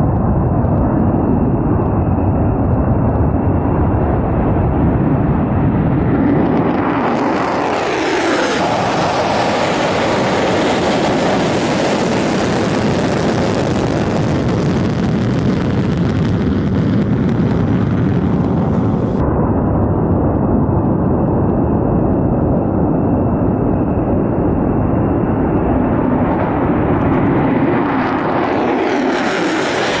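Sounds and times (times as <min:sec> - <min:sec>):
jet engine roaring: 0:00.0 - 0:30.0.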